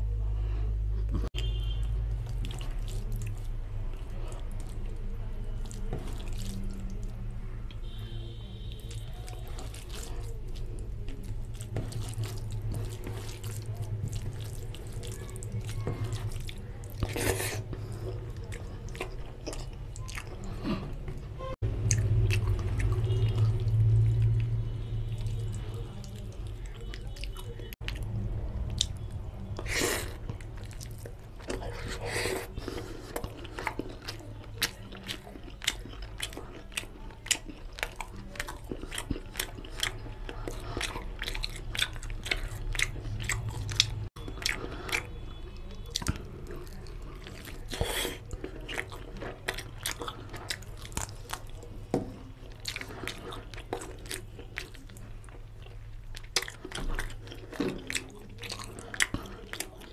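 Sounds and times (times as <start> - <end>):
chewing and biting food: 1.0 - 8.0, 8.6 - 59.9.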